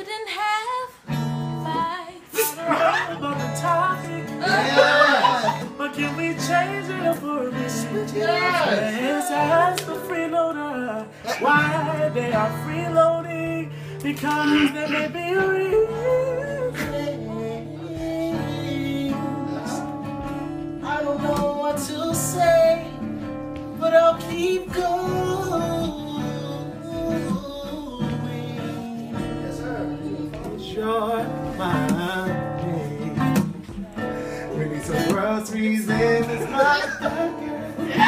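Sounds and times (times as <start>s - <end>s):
acoustic guitar: 0.0s - 38.0s
men singing: 2.2s - 20.0s, 20.8s - 38.0s.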